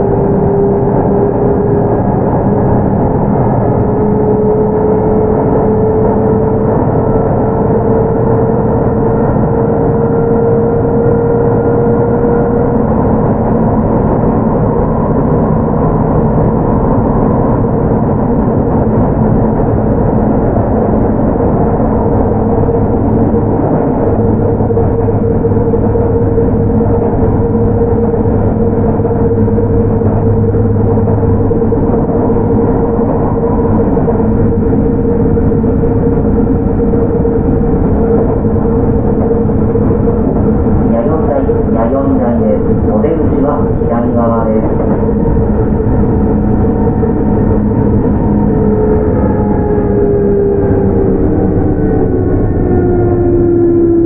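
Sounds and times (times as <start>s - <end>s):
deeper drone: 0.0s - 54.0s
steady humming tone: 0.0s - 54.0s
train wheel and rail noise: 0.0s - 54.0s.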